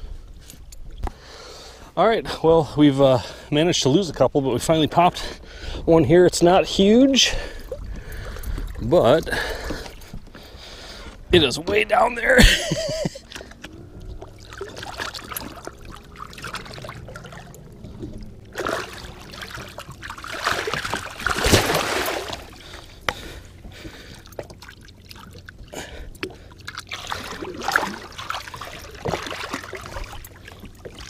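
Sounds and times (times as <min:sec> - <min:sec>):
water splashing and sloshing: 0:00.0 - 0:31.0.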